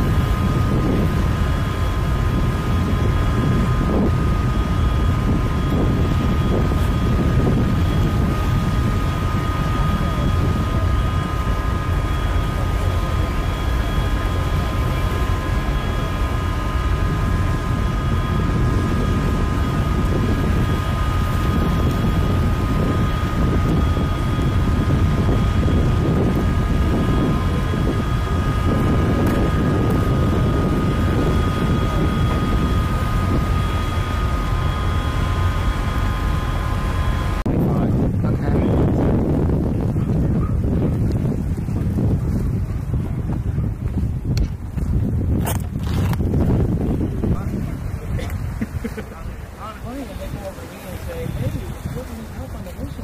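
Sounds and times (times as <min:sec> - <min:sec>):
high-pitched machinery whine: 0:00.0 - 0:40.9, 0:45.5 - 0:53.0
ship machinery low rumble: 0:00.0 - 0:53.0.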